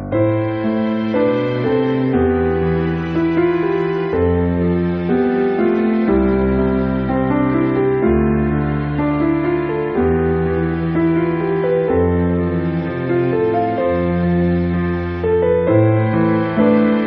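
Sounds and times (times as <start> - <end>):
slow keyboard music: 0.0 - 17.0.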